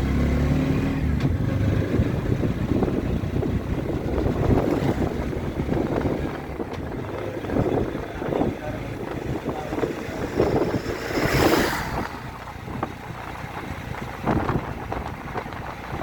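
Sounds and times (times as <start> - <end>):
wind buffeting microphone: 1.0 - 16.0.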